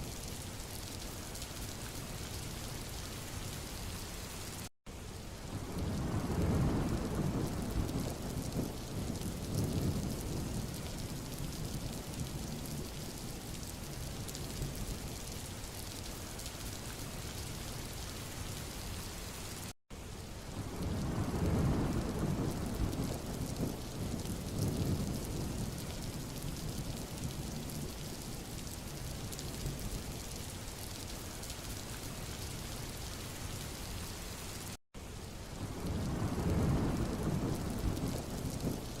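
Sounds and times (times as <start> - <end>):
rain falling on a road: 0.0 - 39.0.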